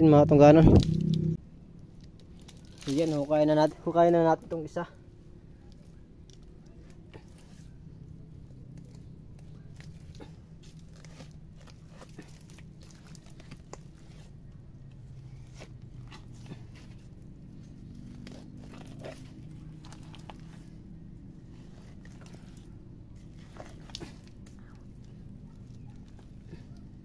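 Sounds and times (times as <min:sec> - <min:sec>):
steady low hum: 0:00.0 - 0:27.0
crunches and clicks of mud: 0:01.8 - 0:04.6, 0:05.5 - 0:27.0.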